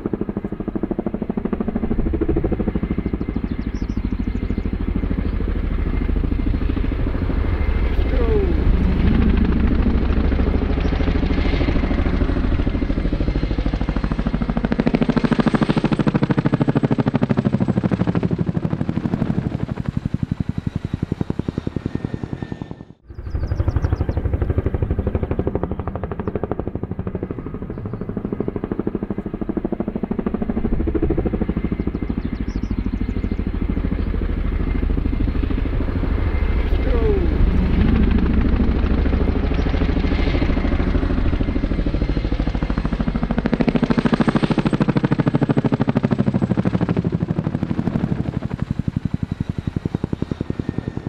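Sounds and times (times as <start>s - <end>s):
helicopter engine noise: 0.0s - 51.0s
helicopter rotor blades chopping: 0.0s - 51.0s.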